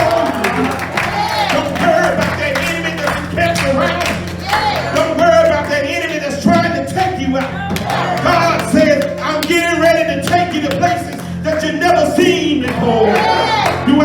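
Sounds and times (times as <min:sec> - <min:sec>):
held instrument chords: 0:00.0 - 0:14.0
preacher chanting: 0:00.0 - 0:14.0.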